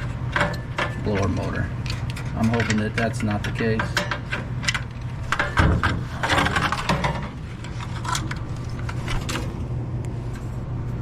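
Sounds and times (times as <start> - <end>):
clicks and scraping of parts: 0.0 - 10.6
steady low hum: 0.0 - 11.0.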